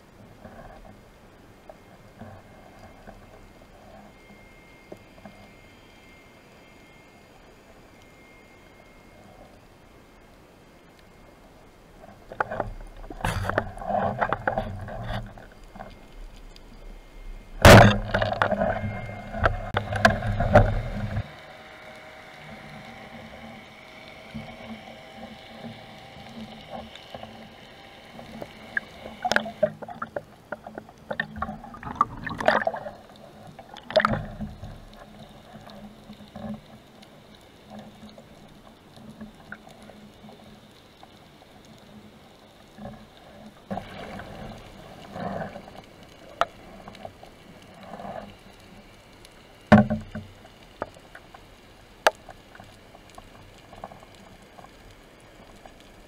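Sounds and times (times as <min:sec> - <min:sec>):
distant engine hum underwater: 0:00.0 - 0:56.0.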